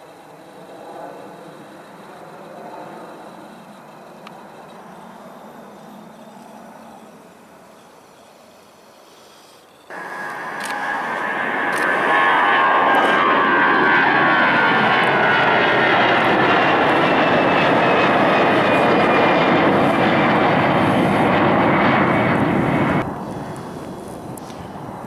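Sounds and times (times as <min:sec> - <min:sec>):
jet engines roaring with whine: 0:00.0 - 0:08.4, 0:09.8 - 0:25.0.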